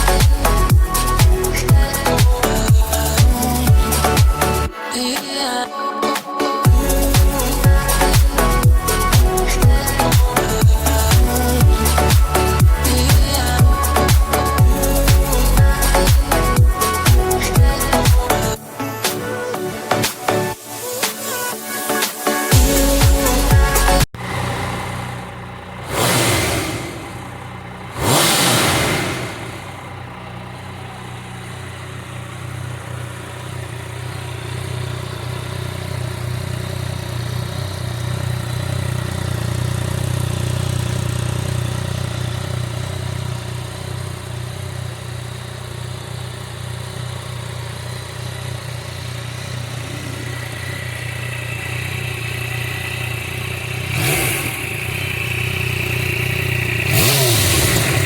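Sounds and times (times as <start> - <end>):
engine revving: 0.0 - 4.7, 6.7 - 18.6, 22.4 - 45.1, 46.7 - 58.0
motorcycle engine idling: 0.0 - 5.6, 6.7 - 21.5, 22.5 - 58.0.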